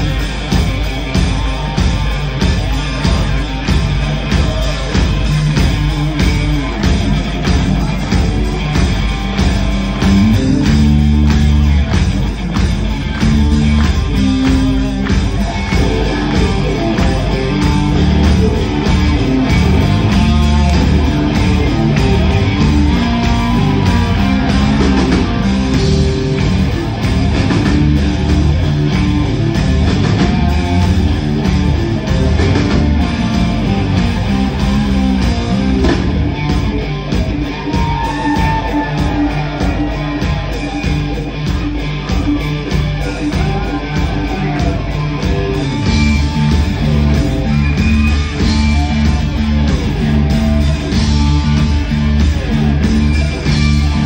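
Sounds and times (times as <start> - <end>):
live rock band playing loudly: 0.0 - 54.0.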